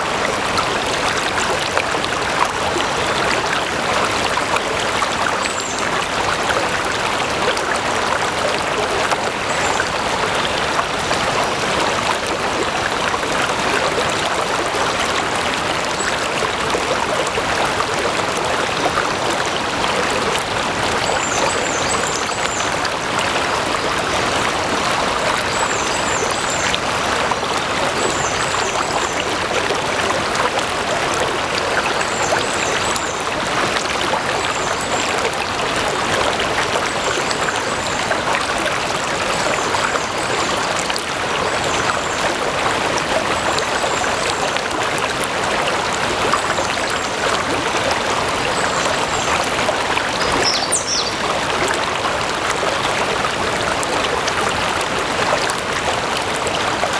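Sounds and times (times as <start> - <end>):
stream rushing and burbling: 0.0 - 56.9.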